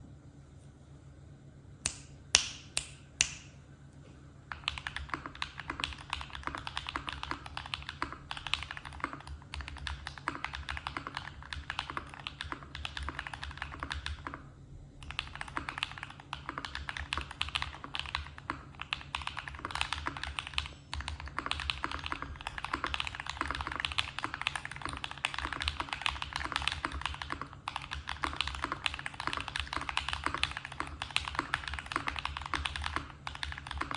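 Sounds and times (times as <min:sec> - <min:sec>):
loud keyboard clicks: 0:04.5 - 0:14.4, 0:15.0 - 0:33.9
mechanical keyboard typing: 0:04.5 - 0:14.4, 0:15.0 - 0:33.9.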